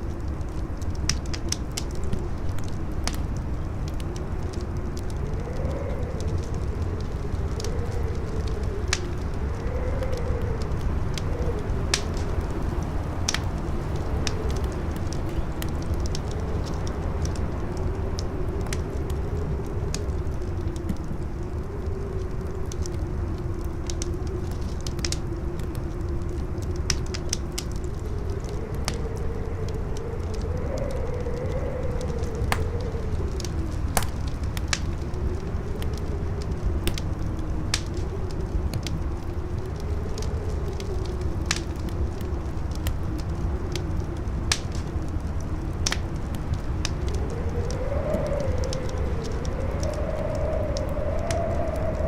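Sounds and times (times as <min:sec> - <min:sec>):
campfire crackling: 0:00.0 - 0:52.0
howling wind: 0:00.0 - 0:52.0.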